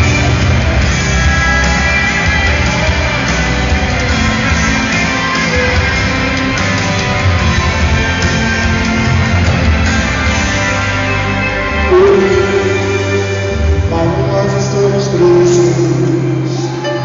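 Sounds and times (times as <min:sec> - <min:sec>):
live band worship music: 0:00.0 - 0:17.0
low bass line: 0:00.0 - 0:17.0.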